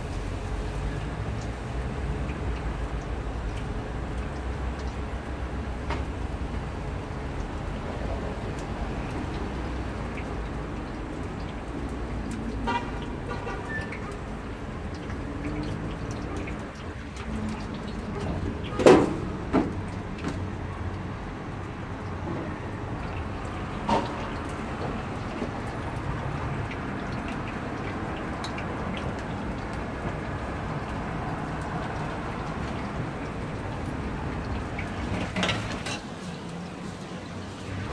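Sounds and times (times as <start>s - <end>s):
oil sizzling: 0.0s - 37.9s
street traffic: 0.0s - 37.9s.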